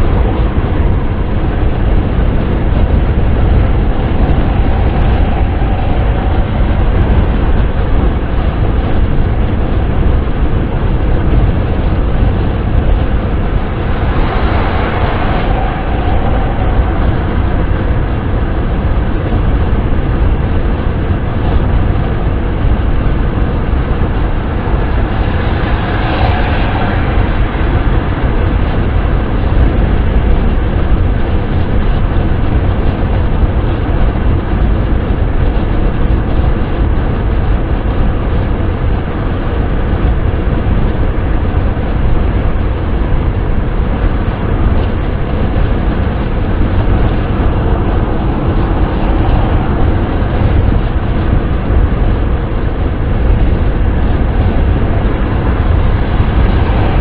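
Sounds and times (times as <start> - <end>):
car wind and road noise: 0.0 - 57.0.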